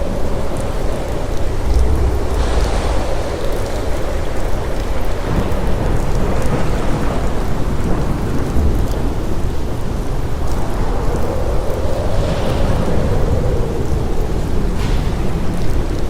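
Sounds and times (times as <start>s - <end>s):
low rumble of thunder: 0.0s - 16.0s
steady rain: 0.0s - 16.0s.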